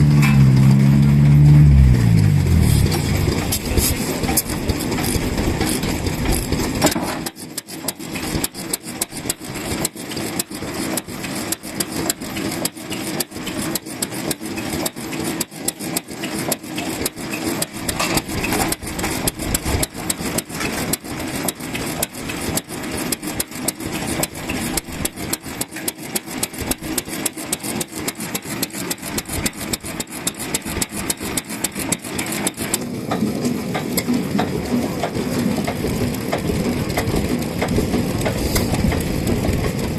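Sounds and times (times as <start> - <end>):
engine clattering: 0.0 - 39.9.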